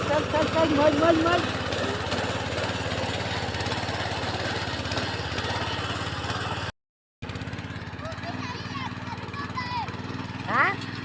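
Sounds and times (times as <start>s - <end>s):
tractor engine chugging: 0.0s - 11.0s.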